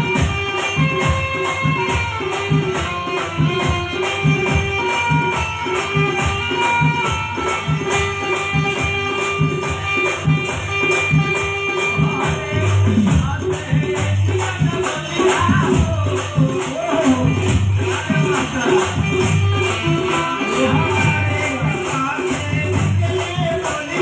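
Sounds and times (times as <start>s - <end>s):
brass hand cymbals clashing: 0.1s - 23.2s.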